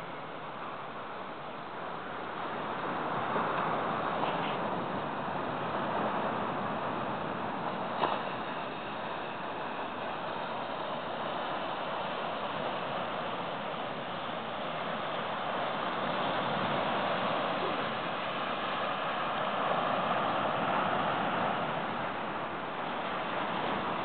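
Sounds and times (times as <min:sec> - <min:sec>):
ocean surf rushing hiss: 0:00.0 - 0:24.0.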